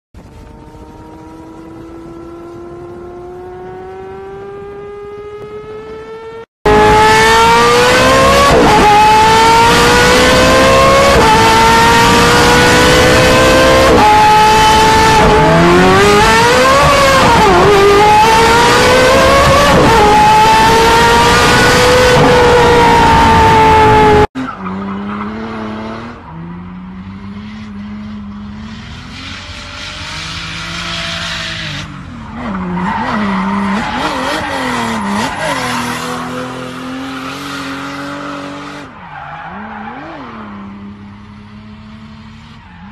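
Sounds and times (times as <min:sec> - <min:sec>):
sports car engine accelerating: 0:00.2 - 0:42.8
loud engine at full throttle upshifting: 0:00.2 - 0:42.9.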